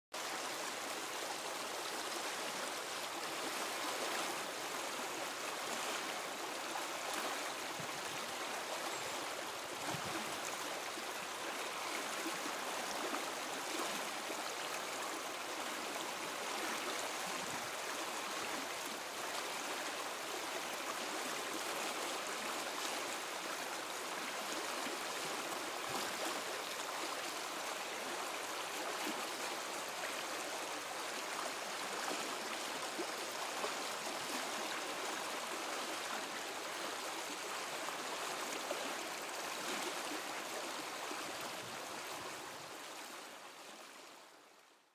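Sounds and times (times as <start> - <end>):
river water rushing: 0.2 - 44.6.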